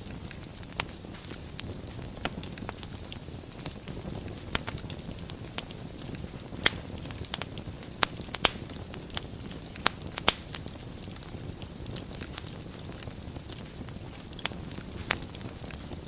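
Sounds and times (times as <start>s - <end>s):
fire crackles and pops: 0.0s - 16.0s
fire hissing and rumbling: 0.0s - 16.0s.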